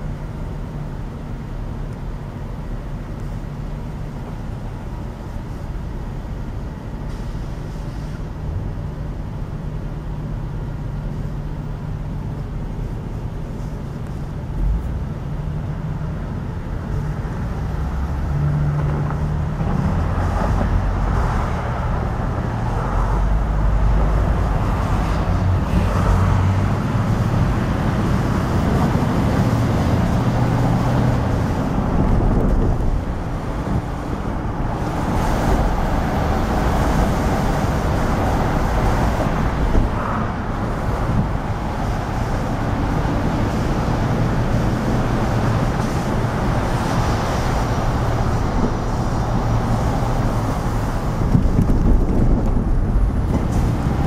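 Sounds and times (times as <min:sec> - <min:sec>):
freight cars rumbling: 0:00.0 - 0:54.0
locomotive engines droning: 0:00.0 - 0:54.0
road traffic noise: 0:00.0 - 0:54.0.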